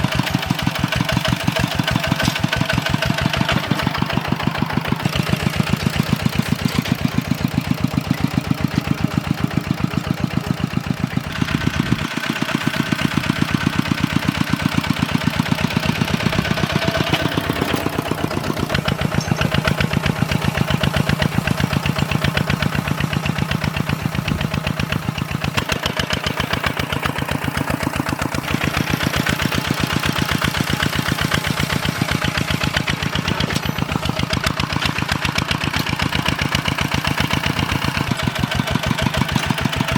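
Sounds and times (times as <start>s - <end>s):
diesel tractor engine putter: 0.0s - 39.9s.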